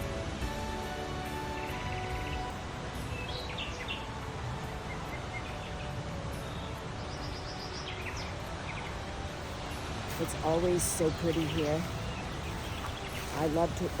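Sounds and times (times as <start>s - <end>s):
background music: 0.0s - 14.0s
songbirds chirping: 0.0s - 14.0s.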